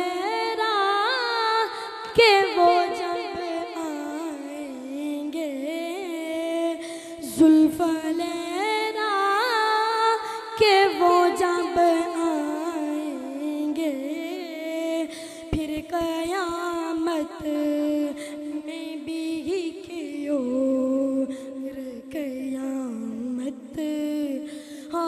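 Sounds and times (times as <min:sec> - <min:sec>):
boy singing into a microphone: 0:00.0 - 0:25.0.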